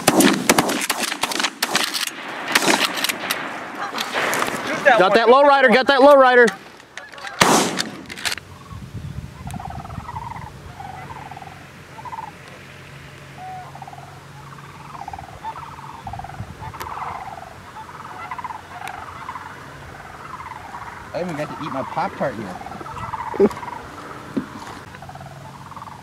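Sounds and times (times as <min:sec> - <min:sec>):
geese honking: 0:02.5 - 0:26.0.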